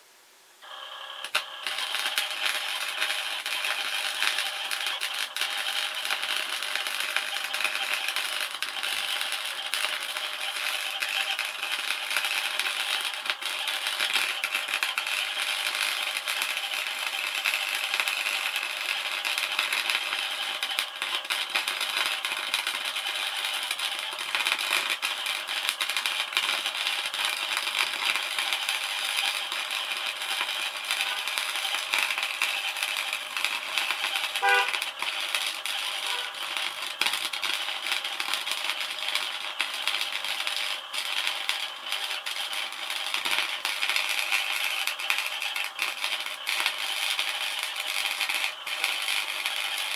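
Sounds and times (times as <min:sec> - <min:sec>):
welder arc crackling: 0:00.6 - 0:49.9.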